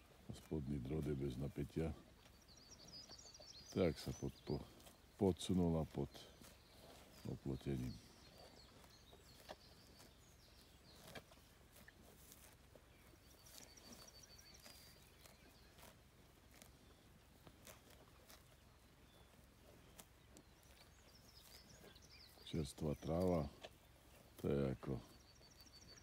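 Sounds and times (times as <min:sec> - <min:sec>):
cow cropping grass: 0:00.0 - 0:26.0.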